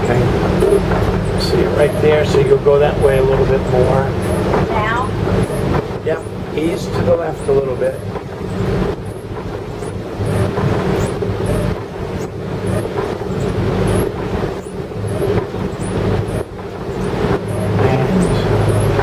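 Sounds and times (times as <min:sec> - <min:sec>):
boat engines running steadily: 0:00.0 - 0:19.0.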